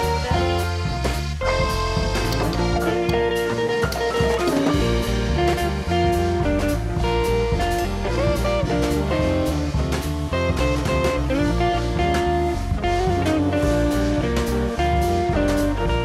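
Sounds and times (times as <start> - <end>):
instrumental music with guitar: 0.0 - 16.0
steady drum beat: 0.0 - 16.0.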